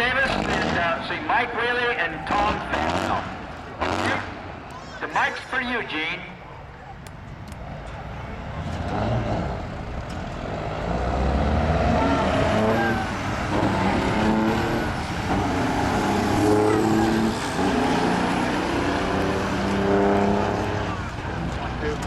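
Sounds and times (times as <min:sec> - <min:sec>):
diesel truck engine shifting gears: 0:00.0 - 0:01.1, 0:01.7 - 0:04.8, 0:06.8 - 0:22.0.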